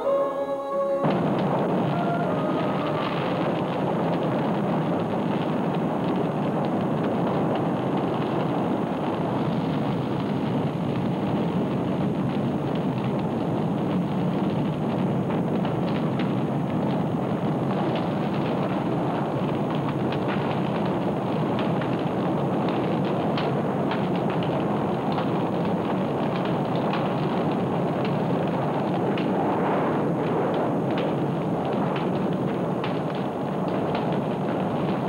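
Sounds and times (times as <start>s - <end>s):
dense rumbling noise: 0.0s - 35.0s.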